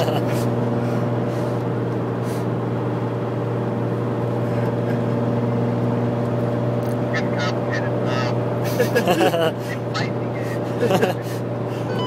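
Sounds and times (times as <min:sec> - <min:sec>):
car engine and tyres droning: 0:00.0 - 0:12.0.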